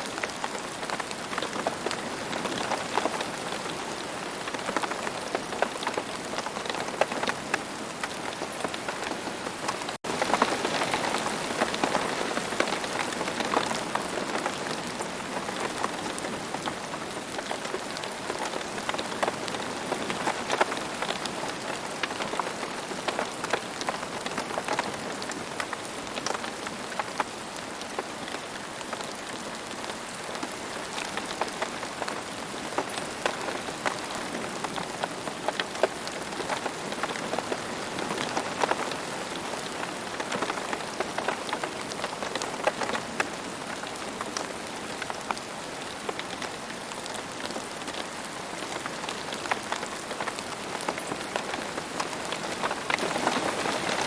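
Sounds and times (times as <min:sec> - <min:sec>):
rain on hard surface: 0:00.0 - 0:54.0.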